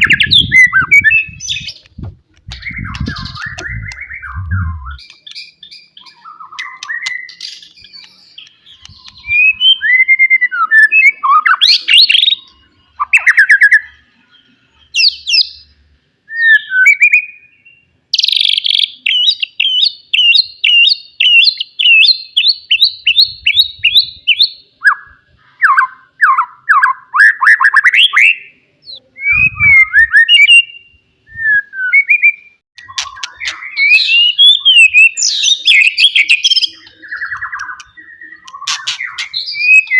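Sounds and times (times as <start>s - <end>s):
bird singing whistled phrases: 0.0s - 1.8s, 2.5s - 14.0s, 16.3s - 39.9s.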